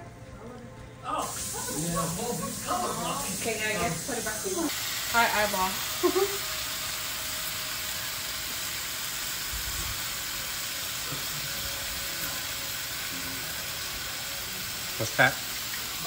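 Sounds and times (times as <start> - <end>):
food sizzling in a frying pan: 1.2 - 16.0.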